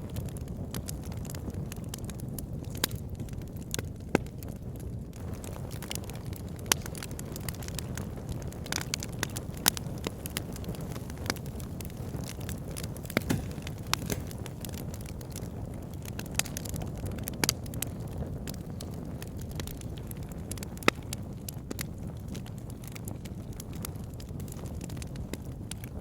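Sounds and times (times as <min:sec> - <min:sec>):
wood fire burning: 0:00.0 - 0:26.0.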